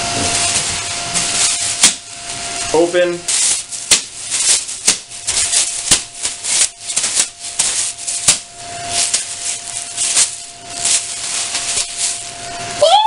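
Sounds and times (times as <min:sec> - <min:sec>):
plastic bags rustling and crackling: 0:00.0 - 0:13.0.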